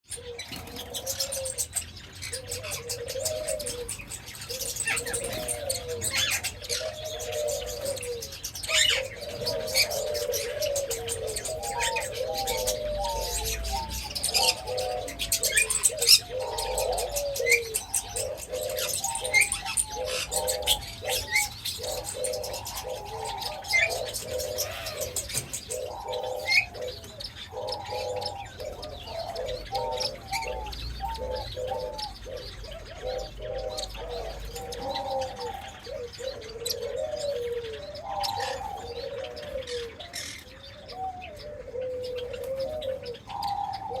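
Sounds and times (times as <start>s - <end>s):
birds calling: 0.0s - 44.0s.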